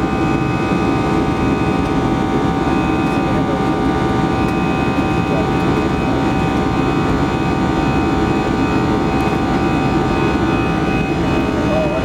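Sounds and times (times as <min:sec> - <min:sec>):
engine whining tones: 0:00.0 - 0:12.0
jet engine drone: 0:00.0 - 0:12.0.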